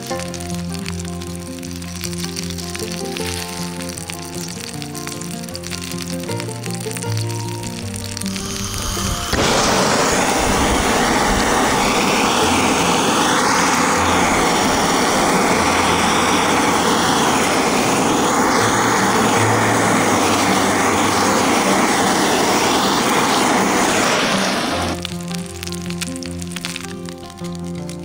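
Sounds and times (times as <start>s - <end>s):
gas torch hissing: 0.0s - 27.2s.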